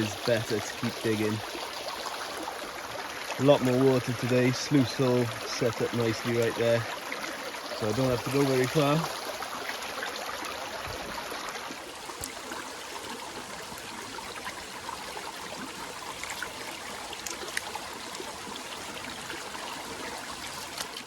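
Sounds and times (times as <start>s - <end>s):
river rushing over stones: 0.0s - 21.0s
small water splashes: 0.0s - 21.0s.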